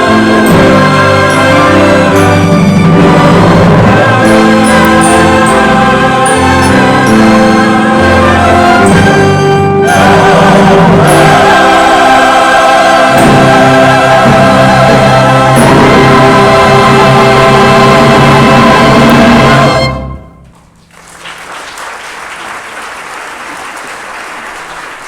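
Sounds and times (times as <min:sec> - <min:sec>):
church choir singing: 0:00.0 - 0:20.4
orchestra accompaniment: 0:00.0 - 0:20.8.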